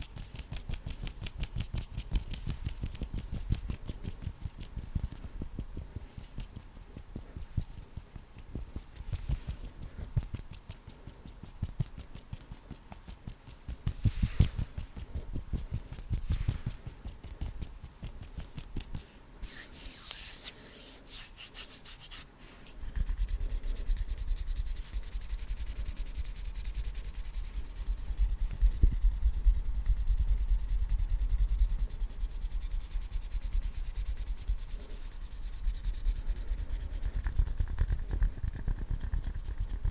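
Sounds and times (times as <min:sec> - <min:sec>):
hands rubbing: 0:00.0 - 0:31.0, 0:31.8 - 0:39.9.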